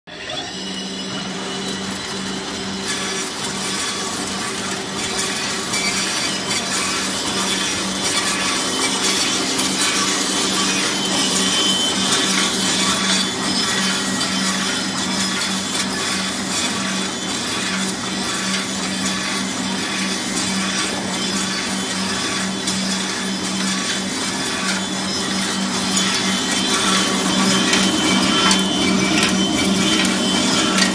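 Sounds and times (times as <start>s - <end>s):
wood being cut by machine: 0.1s - 30.9s.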